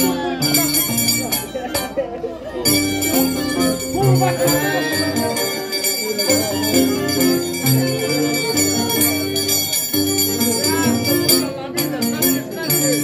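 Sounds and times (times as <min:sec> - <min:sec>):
festival music: 0:00.0 - 0:13.0.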